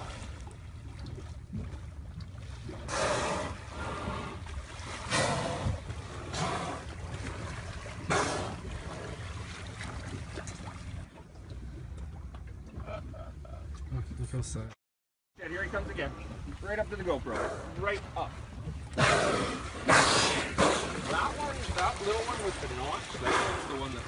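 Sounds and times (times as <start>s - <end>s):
water splashing: 0.0s - 14.1s, 15.4s - 24.0s.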